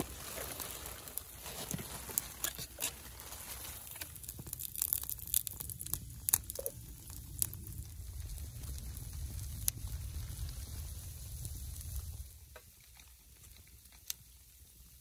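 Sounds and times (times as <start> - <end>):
hot oil crackling in frying pan: 0.0 - 15.0.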